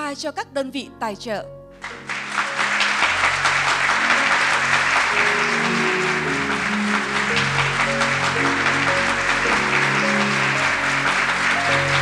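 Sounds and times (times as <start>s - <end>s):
instrumental background music: 0.0s - 12.0s
audience applauding: 1.8s - 12.0s.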